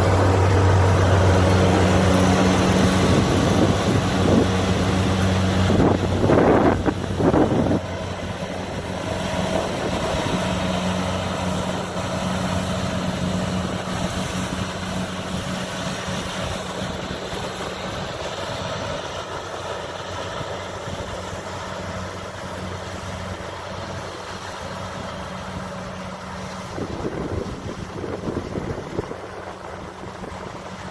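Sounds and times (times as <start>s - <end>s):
combine harvester diesel engine: 0.0s - 30.9s.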